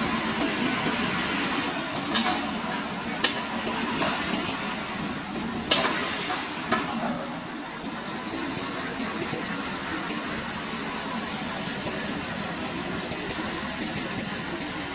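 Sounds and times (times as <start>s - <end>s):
excavator engine running: 0.0s - 14.9s.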